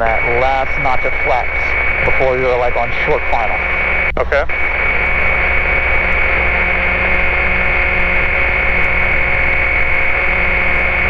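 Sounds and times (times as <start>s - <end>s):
airplane engine and propeller drone: 0.0s - 11.0s.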